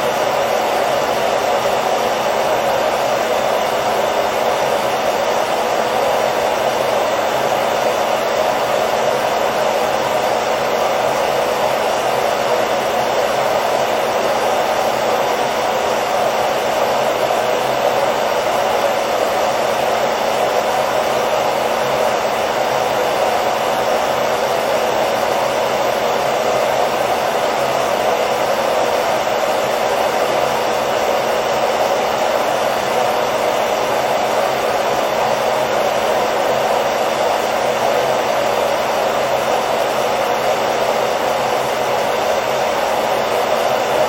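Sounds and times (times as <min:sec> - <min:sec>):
hair dryer blowing: 0:00.0 - 0:44.0.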